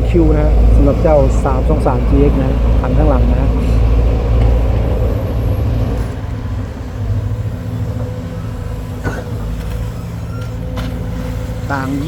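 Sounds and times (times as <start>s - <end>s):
excavator diesel engines rumbling: 0.0s - 12.0s.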